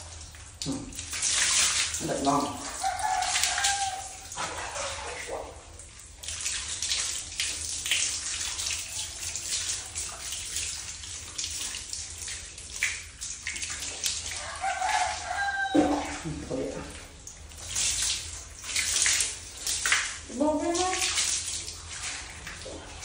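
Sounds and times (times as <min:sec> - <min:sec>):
water splashing onto tiled floor: 0:00.0 - 0:23.0.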